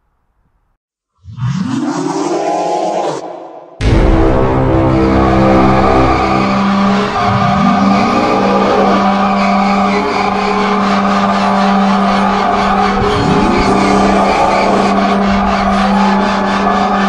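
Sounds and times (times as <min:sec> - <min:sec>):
ominous horror drone: 0:01.8 - 0:17.0.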